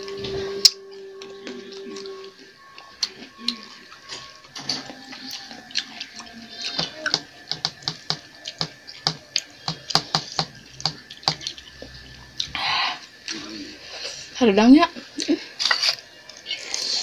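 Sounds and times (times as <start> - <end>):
chewing noodles: 1.3 - 14.4, 15.1 - 17.0.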